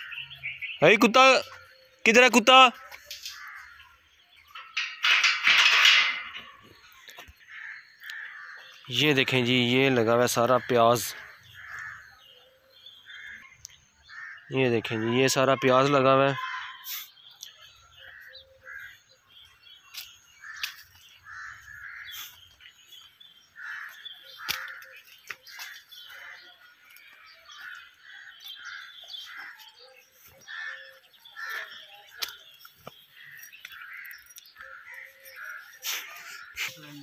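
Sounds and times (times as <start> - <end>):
birds calling: 0.0 - 37.0.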